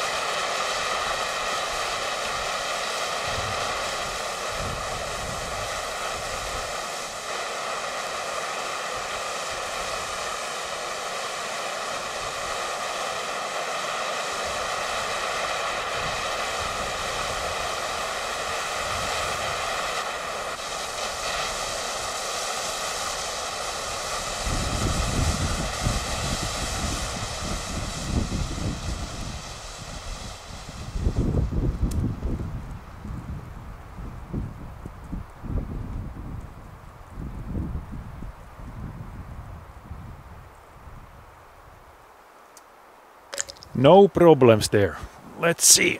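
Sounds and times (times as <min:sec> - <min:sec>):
flare burning with hiss: 0:00.0 - 0:42.4.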